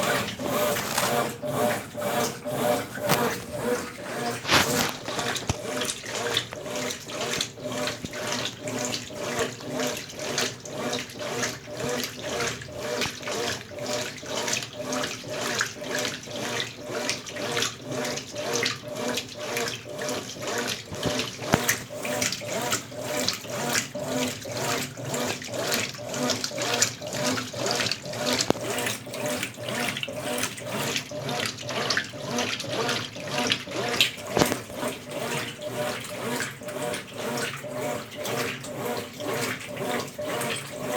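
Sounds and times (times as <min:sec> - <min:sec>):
washing machine agitating water: 0:00.0 - 0:40.9.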